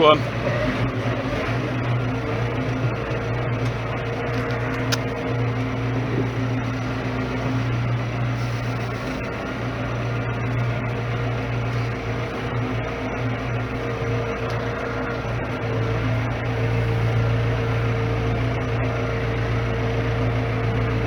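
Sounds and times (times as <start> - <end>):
tractor diesel engine humming: 0.0 - 21.0.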